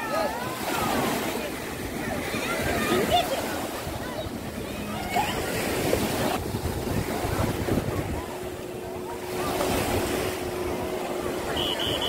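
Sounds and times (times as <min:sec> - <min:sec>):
faint watercraft engine hum: 0:00.0 - 0:12.0
surf washing onto beach: 0:00.0 - 0:12.0
wind buffeting microphone: 0:01.6 - 0:12.0.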